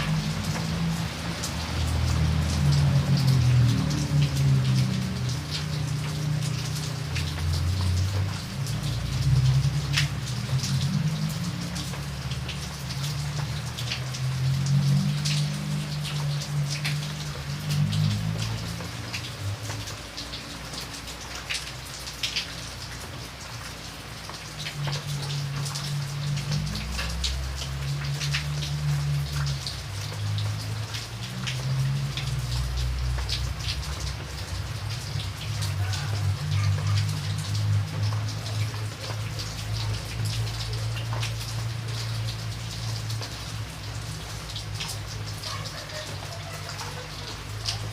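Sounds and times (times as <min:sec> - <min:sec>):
rain hissing: 0:00.0 - 0:47.9
raindrops ticking: 0:00.0 - 0:47.9.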